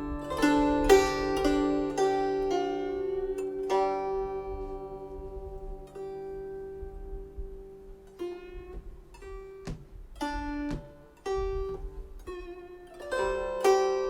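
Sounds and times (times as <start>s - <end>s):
plucked zither melody: 0.0s - 14.0s.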